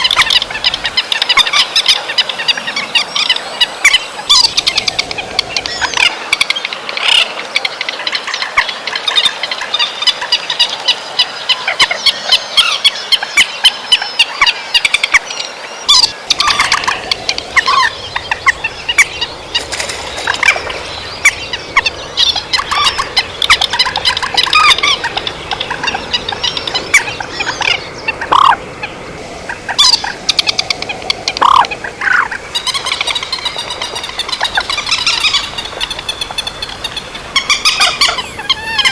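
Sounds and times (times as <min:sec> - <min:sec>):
falling bird calls: 0:00.0 - 0:38.9
flock of birds chattering: 0:00.0 - 0:38.9.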